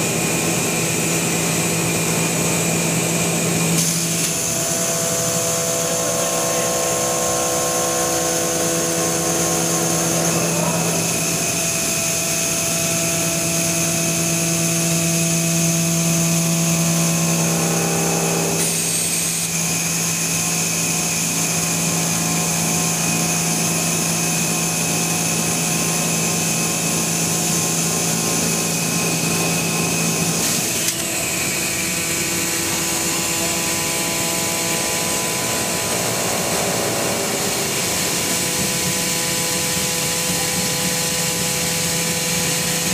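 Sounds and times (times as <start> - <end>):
milling machine humming: 0.0 - 42.9
machine whining tones: 3.0 - 42.9.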